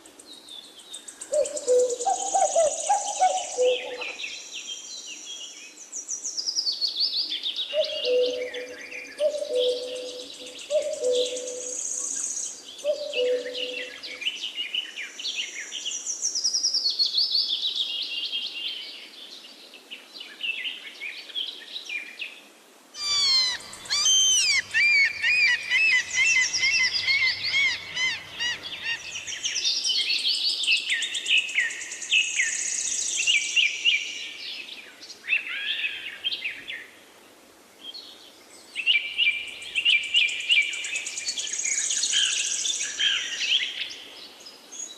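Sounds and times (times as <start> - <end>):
songbirds singing: 0.0 - 22.3, 23.0 - 37.0.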